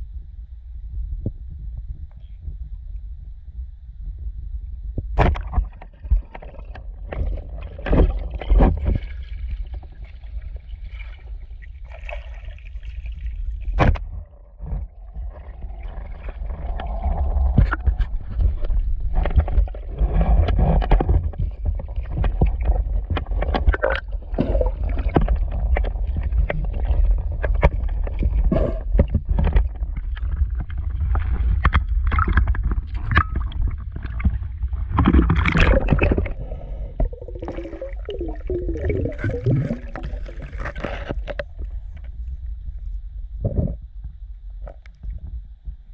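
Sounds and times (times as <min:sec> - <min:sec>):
low rumble: 0:00.0 - 0:12.0, 0:13.0 - 0:45.9
water gurgling and sloshing: 0:05.2 - 0:45.9.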